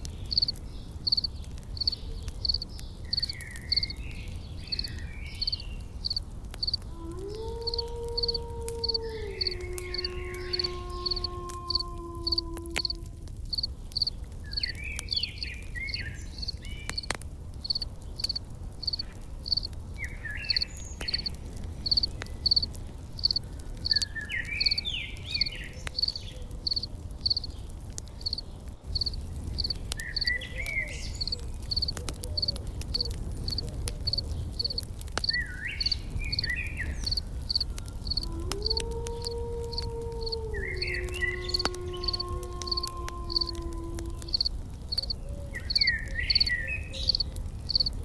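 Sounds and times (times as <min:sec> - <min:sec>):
bird singing: 0:00.0 - 0:43.6, 0:44.2 - 0:48.0
faint crackles: 0:00.0 - 0:48.0
insect chirping: 0:00.3 - 0:03.9, 0:04.7 - 0:06.8, 0:07.6 - 0:14.6, 0:17.6 - 0:19.7, 0:20.4 - 0:24.8, 0:25.4 - 0:27.5, 0:28.2 - 0:30.4, 0:31.2 - 0:48.0.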